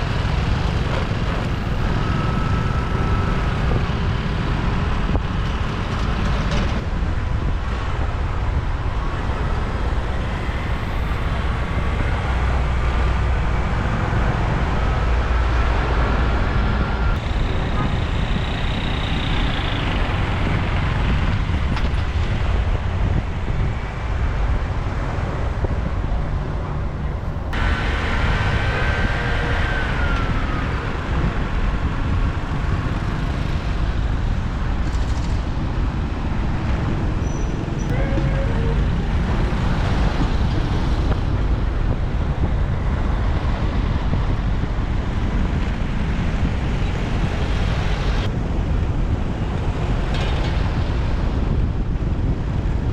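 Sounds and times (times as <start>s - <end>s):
road and traffic rumble: 0.0s - 52.9s.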